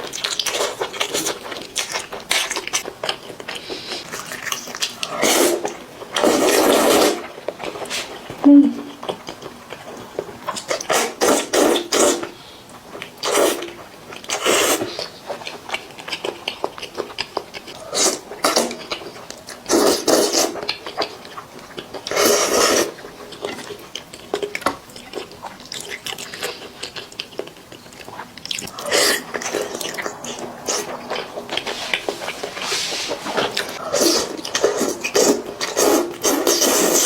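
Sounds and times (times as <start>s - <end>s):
person chewing food: 0.0s - 37.0s.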